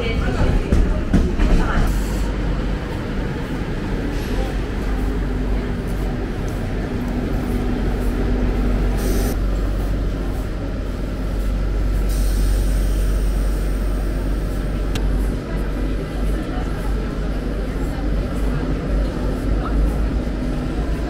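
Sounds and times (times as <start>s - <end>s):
train equipment humming: 0.0s - 21.0s.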